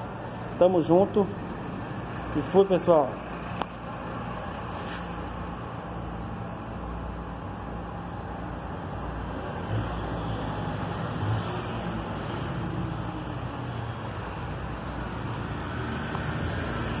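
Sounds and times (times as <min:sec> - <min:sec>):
motor vehicles rumbling: 0:00.0 - 0:17.0.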